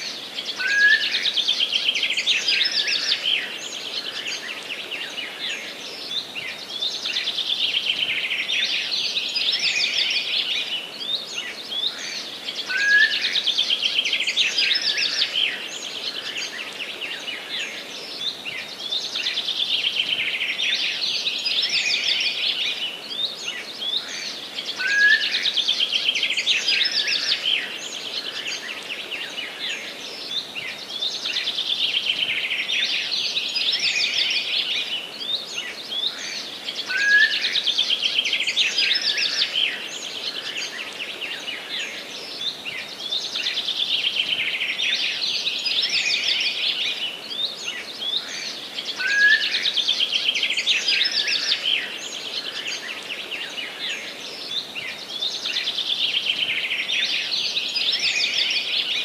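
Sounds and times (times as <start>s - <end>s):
faint outdoor hiss: 0.0s - 59.0s
songbirds singing: 0.0s - 59.0s.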